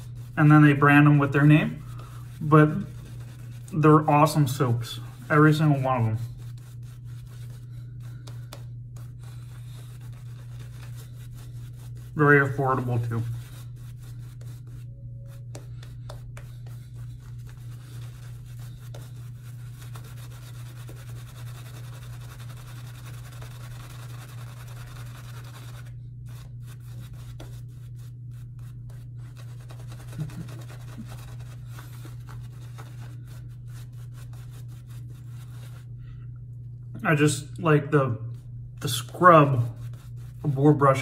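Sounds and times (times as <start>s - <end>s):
shaving brush rubbing on stubble: 0.0s - 36.0s, 38.3s - 41.0s
steady low hum: 0.0s - 41.0s.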